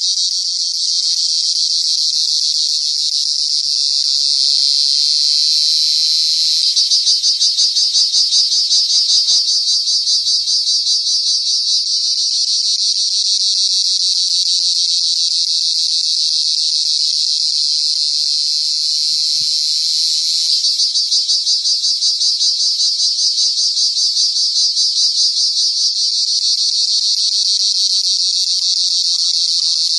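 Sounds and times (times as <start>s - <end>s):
cricket shrill buzzing: 0.0s - 29.9s.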